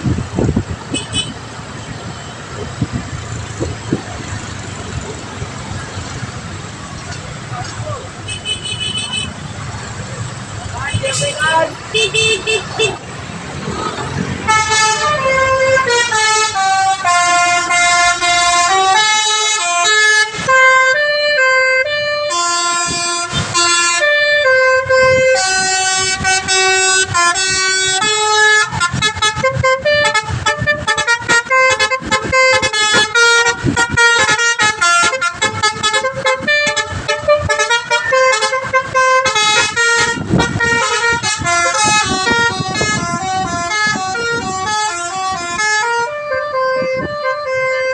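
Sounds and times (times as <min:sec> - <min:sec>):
multi-tone bus horn melody: 0:00.8 - 0:02.5, 0:08.2 - 0:09.5, 0:10.9 - 0:13.1, 0:14.2 - 0:47.9.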